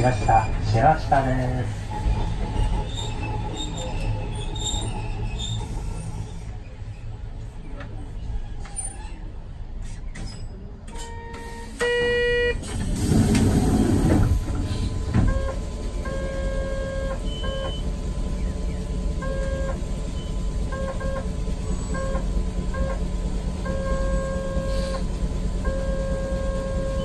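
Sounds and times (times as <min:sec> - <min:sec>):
tram interior rumble: 0:00.0 - 0:27.0.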